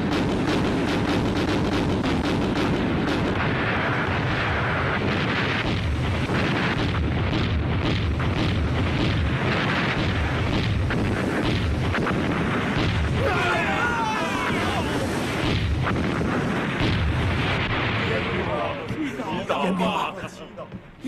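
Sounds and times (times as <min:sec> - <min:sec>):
cannon fire: 0:00.0 - 0:18.9
explosions: 0:00.0 - 0:19.5
continuous low rumble: 0:00.0 - 0:21.0.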